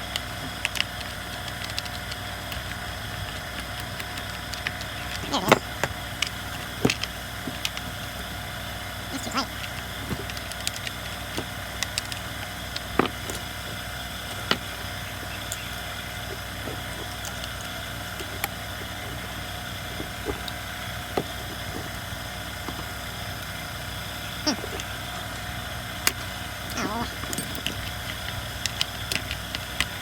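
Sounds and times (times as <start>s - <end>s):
hand tools clicking and tapping: 0.0s - 8.3s, 9.1s - 23.7s, 24.4s - 30.0s
steady background hum: 0.0s - 30.0s.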